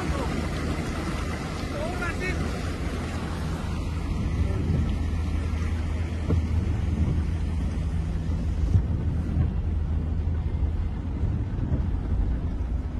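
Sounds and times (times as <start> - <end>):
car driving rumble: 0.0 - 12.9.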